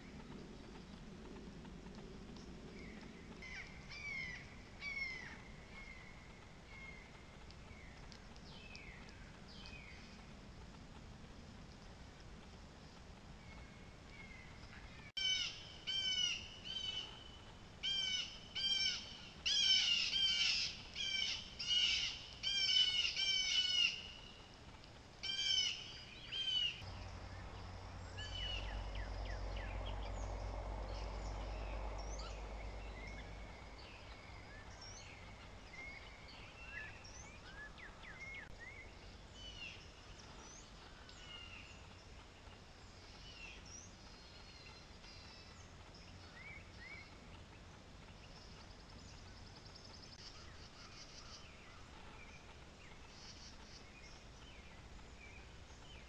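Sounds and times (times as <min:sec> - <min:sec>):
low rumble: 0:00.0 - 0:19.5, 0:26.1 - 0:56.0
small birds chirping: 0:00.0 - 0:56.0.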